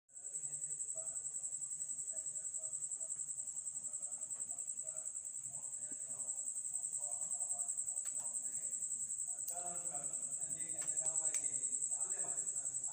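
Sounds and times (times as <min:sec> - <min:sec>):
high-pitched insect trill: 0:00.2 - 0:12.9.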